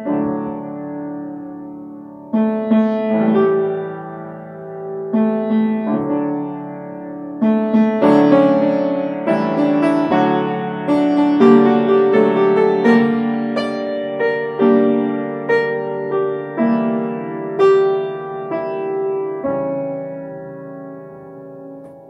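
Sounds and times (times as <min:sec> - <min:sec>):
slow piano piece: 0:00.0 - 0:22.0.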